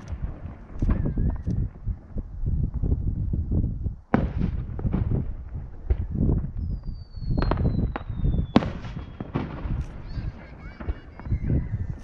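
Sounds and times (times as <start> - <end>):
fireworks booms and cracks: 0.0 - 3.4, 4.1 - 12.0.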